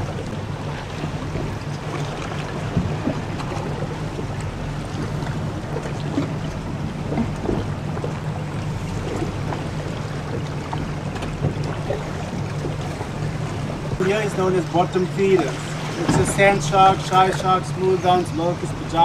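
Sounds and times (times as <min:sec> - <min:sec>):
boat motor humming: 0:00.0 - 0:19.0
water noise: 0:00.0 - 0:19.0.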